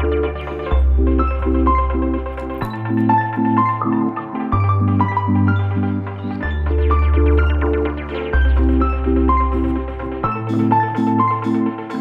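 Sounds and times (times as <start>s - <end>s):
sustained bass line: 0.0s - 12.0s.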